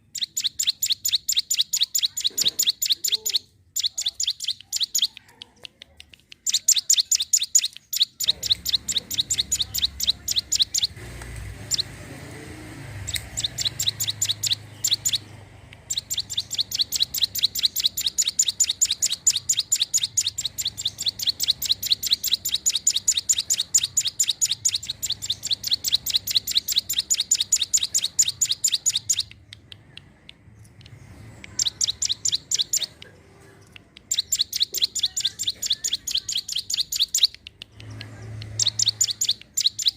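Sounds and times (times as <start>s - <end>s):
bird singing sharp repeated notes: 0.0s - 5.3s, 6.1s - 12.0s, 12.6s - 33.1s, 33.8s - 39.9s.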